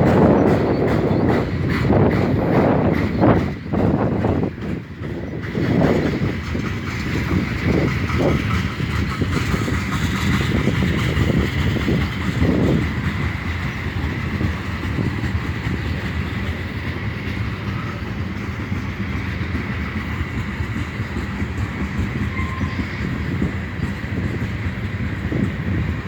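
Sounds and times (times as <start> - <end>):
clickety-clack over rail joints: 0.0 - 26.0
freight train wheels rumbling: 0.0 - 26.0.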